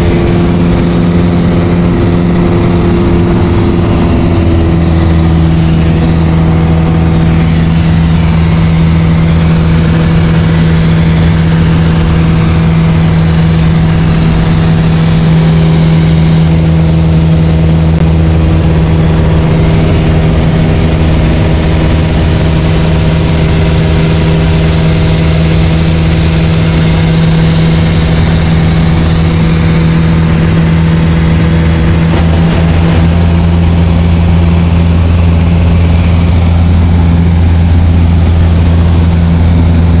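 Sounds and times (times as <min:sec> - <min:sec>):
light aircraft engine drone: 0:00.0 - 0:40.0.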